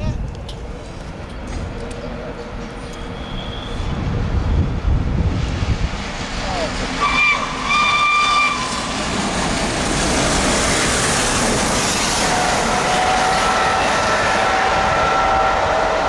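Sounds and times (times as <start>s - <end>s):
train wheels rushing on rails: 0.1s - 16.0s.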